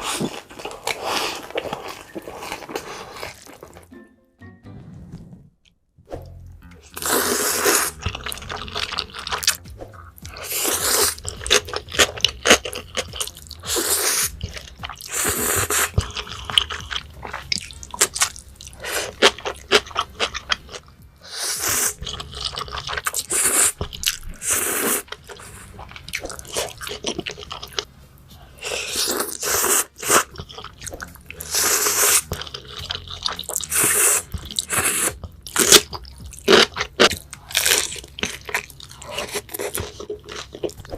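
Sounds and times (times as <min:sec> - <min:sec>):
crunchy food being chewed: 0:00.0 - 0:03.9, 0:06.8 - 0:40.9.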